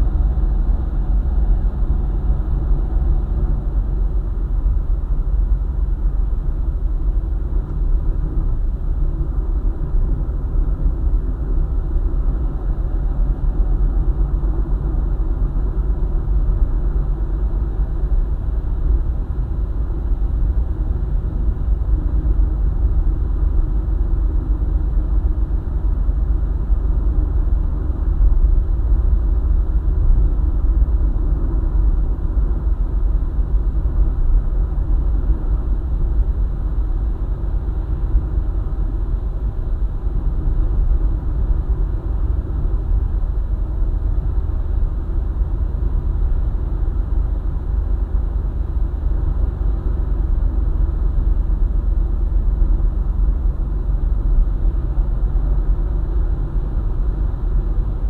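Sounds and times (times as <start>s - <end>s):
car engine: 0.0s - 58.0s.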